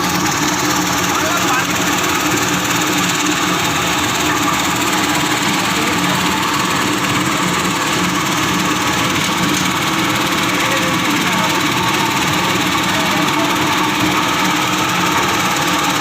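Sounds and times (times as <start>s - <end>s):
washing machine running: 0.0s - 16.0s.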